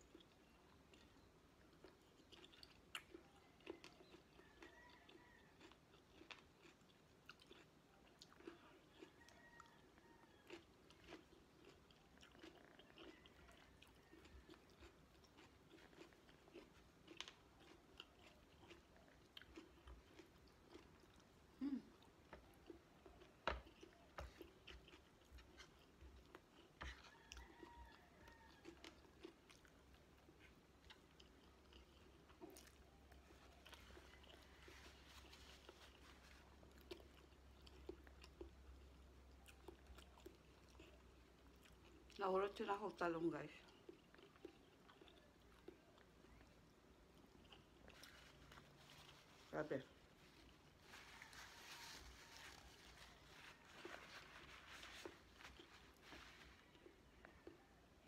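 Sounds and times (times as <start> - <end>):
close-up chewing: 0.0 - 58.0.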